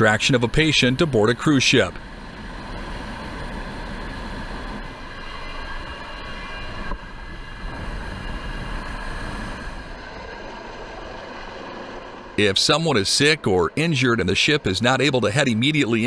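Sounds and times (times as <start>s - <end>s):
faint high turbine whine: 0.0s - 16.0s
helicopter rumbling: 0.0s - 16.0s.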